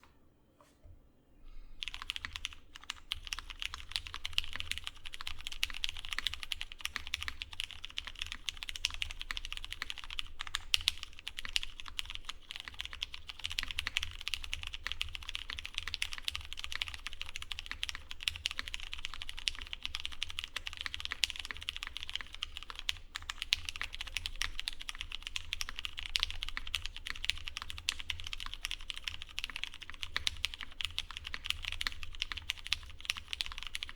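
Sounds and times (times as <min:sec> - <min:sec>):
fast mechanical keyboard typing: 0:01.8 - 0:33.9.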